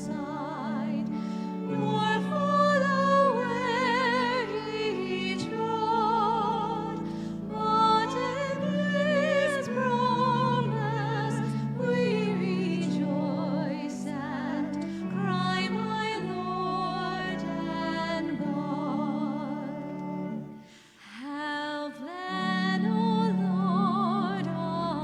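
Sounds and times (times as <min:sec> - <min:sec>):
sustained accompaniment chords: 0:00.0 - 0:20.8
solo voice singing with vibrato: 0:00.0 - 0:25.0.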